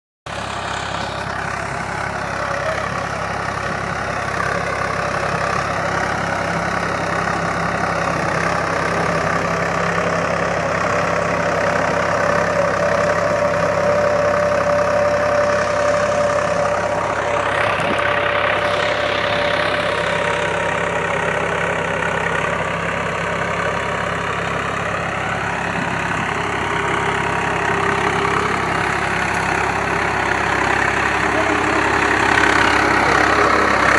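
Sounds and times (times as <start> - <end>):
tractor engine running: 0.3 - 33.9.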